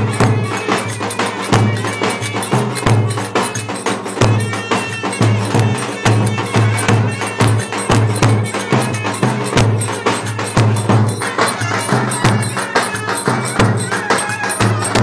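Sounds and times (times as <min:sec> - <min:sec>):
clarinets playing: 0:00.0 - 0:15.0
jingling percussion: 0:00.0 - 0:15.0
steady drum beat: 0:00.0 - 0:15.0.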